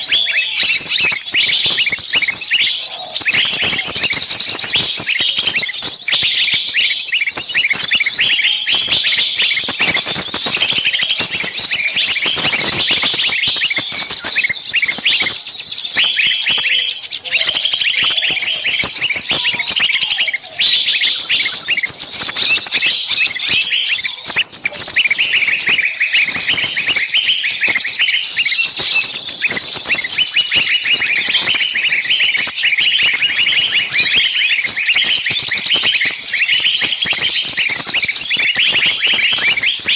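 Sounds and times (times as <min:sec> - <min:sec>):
songbirds chirping and shrieking: 0:00.0 - 0:39.9.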